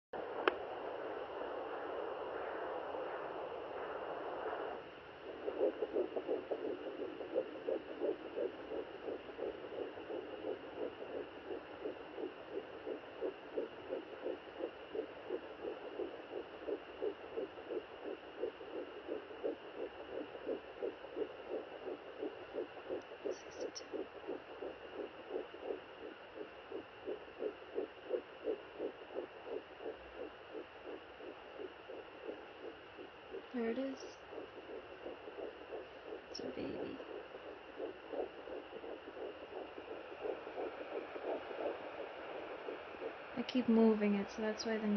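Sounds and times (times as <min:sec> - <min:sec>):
fetal heartbeat through doppler speaker: 0:00.2 - 0:44.9.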